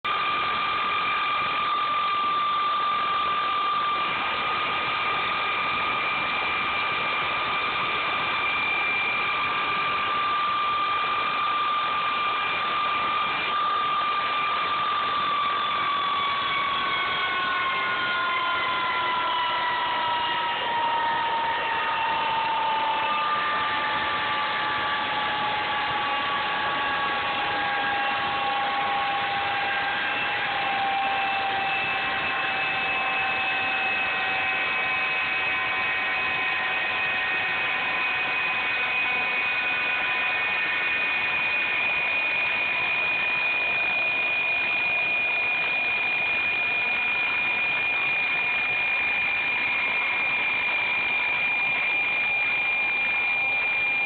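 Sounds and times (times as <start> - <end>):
high whine: 0.0 - 54.0
jet-engine snowblower roaring: 0.0 - 54.0.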